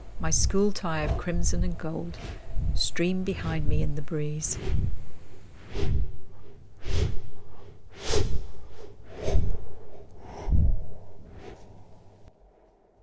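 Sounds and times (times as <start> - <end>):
rhythmic whooshes with thuds: 0.0 - 12.3.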